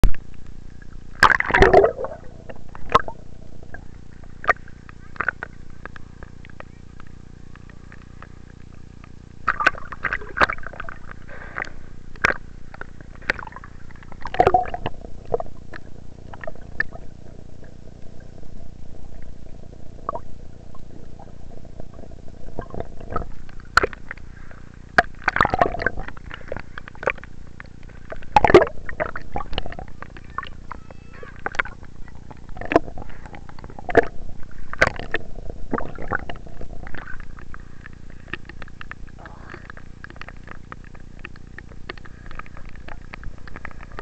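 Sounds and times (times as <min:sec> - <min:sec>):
low rumbling: 0:00.0 - 0:44.0
water sloshing and gurgling: 0:00.0 - 0:44.0
water splashes: 0:00.8 - 0:44.0.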